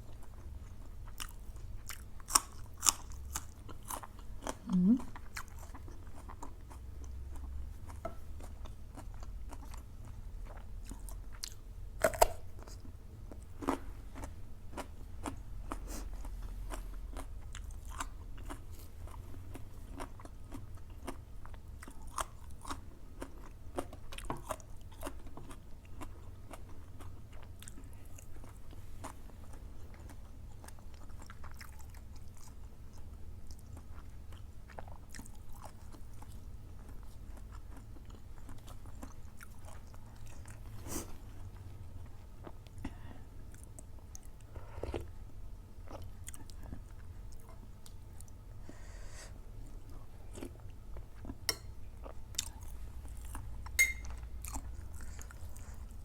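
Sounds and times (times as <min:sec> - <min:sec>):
chewing and crunching bone: 0:00.0 - 0:40.8, 0:45.8 - 0:48.4, 0:49.6 - 0:56.0.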